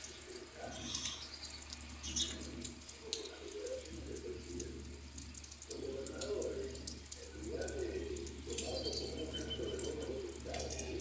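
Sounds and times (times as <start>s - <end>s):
doves cooing: 0.0s - 11.0s
faint low hum: 0.0s - 11.0s
rain pattering and dripping: 0.0s - 11.0s
sharp drip ticks: 0.0s - 11.0s.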